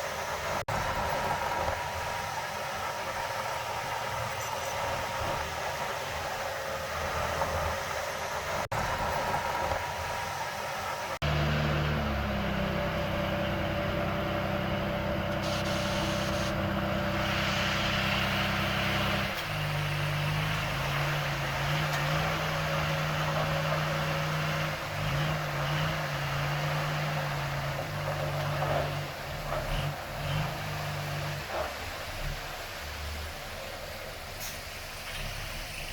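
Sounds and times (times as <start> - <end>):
diesel engine of heavy machinery: 0.0 - 35.9.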